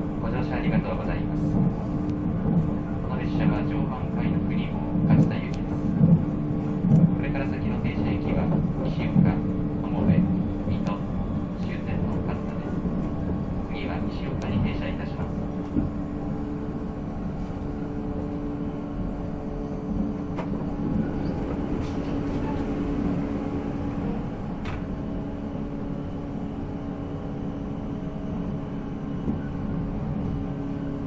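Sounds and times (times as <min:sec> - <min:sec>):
wheels rumbling on rail: 0:00.0 - 0:31.0.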